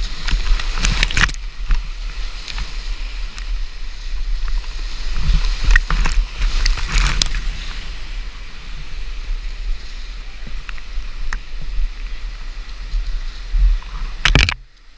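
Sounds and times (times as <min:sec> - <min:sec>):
creek water rushing: 0:00.0 - 0:14.9.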